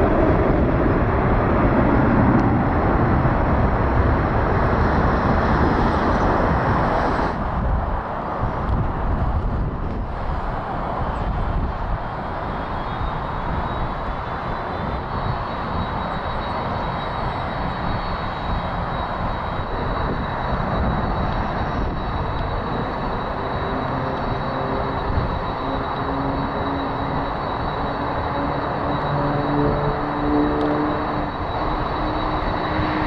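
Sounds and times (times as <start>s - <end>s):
high engine whine: 0.0s - 33.0s
jet engines rumbling: 0.0s - 33.0s.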